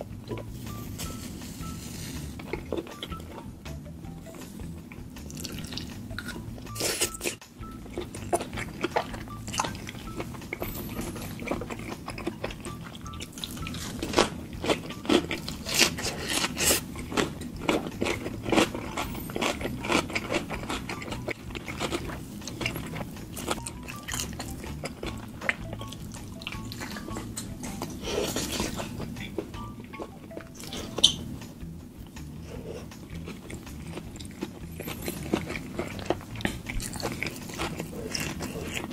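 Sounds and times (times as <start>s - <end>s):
crunching and chewing: 0.0s - 3.5s, 4.7s - 31.4s, 32.0s - 38.9s
quiet background music: 0.0s - 38.9s.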